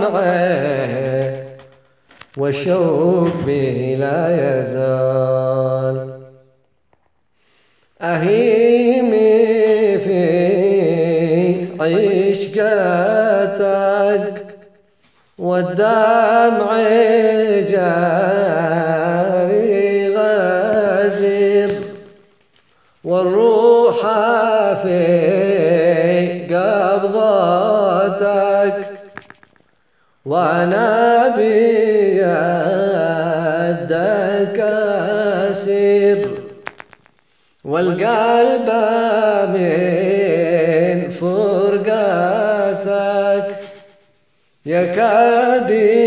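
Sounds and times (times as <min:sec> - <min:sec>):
man chanting: 0:00.0 - 0:01.7, 0:02.4 - 0:06.4, 0:08.0 - 0:14.6, 0:15.4 - 0:22.2, 0:23.0 - 0:29.2, 0:30.3 - 0:36.6, 0:37.6 - 0:43.9, 0:44.6 - 0:46.0.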